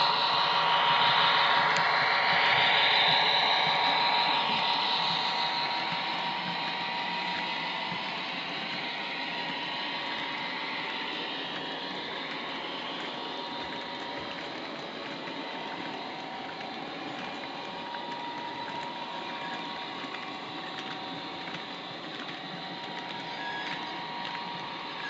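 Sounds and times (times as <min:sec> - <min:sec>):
model train whirring: 0:00.0 - 0:25.0
wagon wheels ticking on track: 0:00.0 - 0:25.0.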